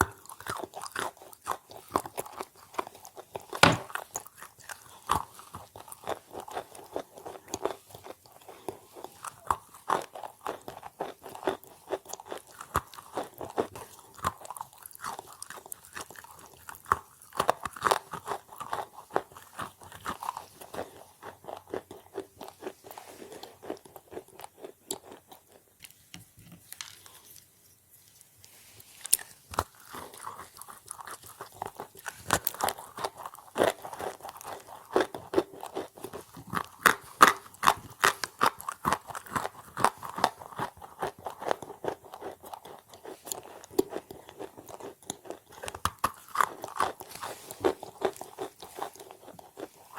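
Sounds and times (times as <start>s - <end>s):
chewing crunchy chalk: 0.0s - 26.0s, 28.1s - 49.9s.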